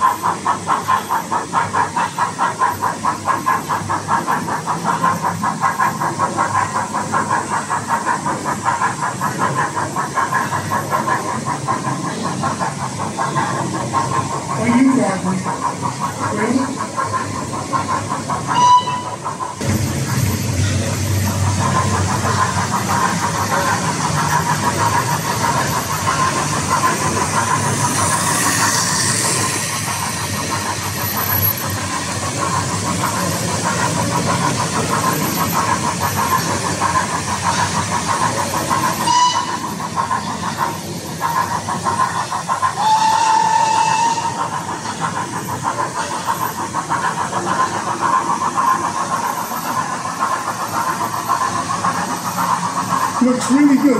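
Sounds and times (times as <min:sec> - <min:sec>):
model train wheels on rails: 0:00.0 - 0:53.9.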